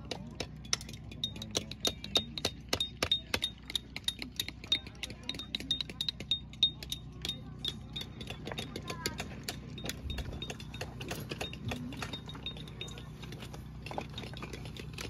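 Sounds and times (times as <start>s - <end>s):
metal tools clinking on stone: 0.0s - 15.0s.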